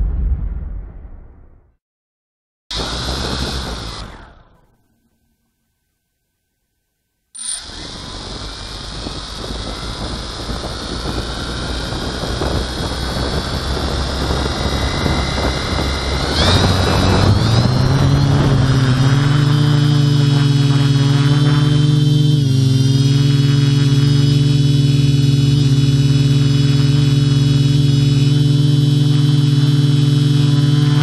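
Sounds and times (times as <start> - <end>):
drone motors whining: 2.7 - 4.8, 7.4 - 31.0.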